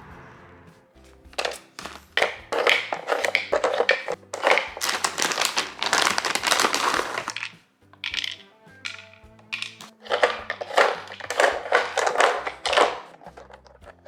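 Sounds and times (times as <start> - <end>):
soft background music: 0.0 - 14.0
rustling crinkling handling: 1.0 - 14.0.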